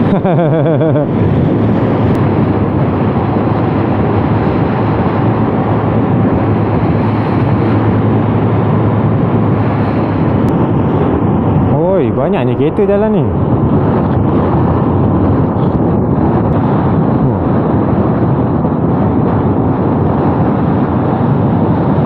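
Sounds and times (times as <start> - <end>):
road noise: 0.0 - 22.0
wind rushing: 0.0 - 22.0.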